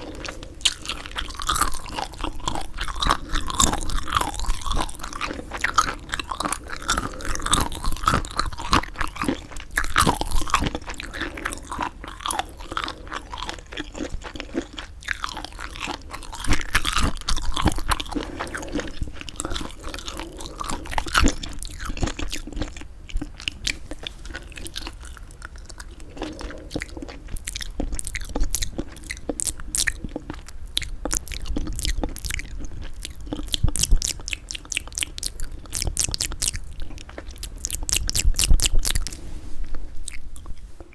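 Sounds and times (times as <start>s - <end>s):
chewing mouth clicks and smacks: 0.1s - 40.9s.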